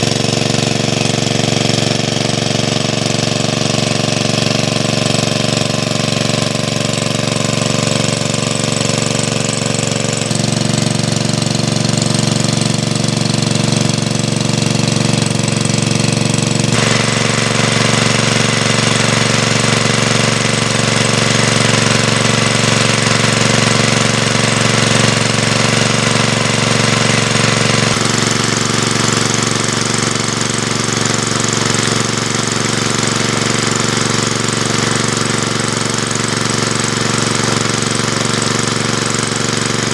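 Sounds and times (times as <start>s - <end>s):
small engine knocking: 0.0s - 39.9s.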